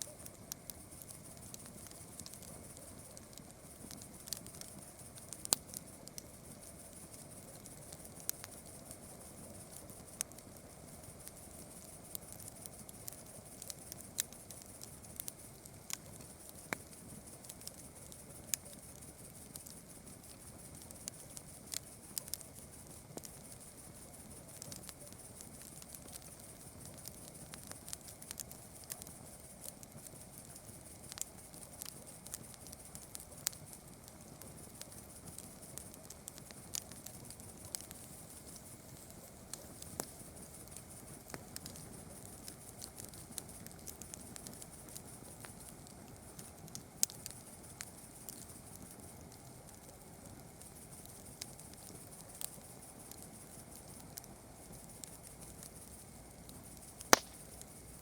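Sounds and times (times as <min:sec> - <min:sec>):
campfire crackling and popping: 0:00.0 - 0:58.0
steady high hiss: 0:00.0 - 0:58.0.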